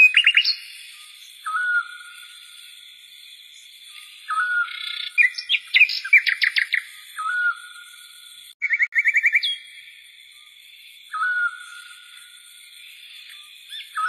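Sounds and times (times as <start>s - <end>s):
rapid bird chirps: 0.0s - 2.8s, 3.5s - 14.0s.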